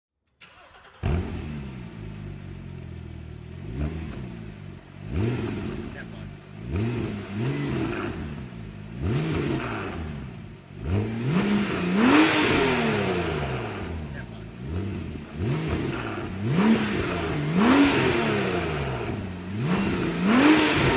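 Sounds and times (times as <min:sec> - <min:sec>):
car engine idling and revving: 0:00.4 - 0:20.9.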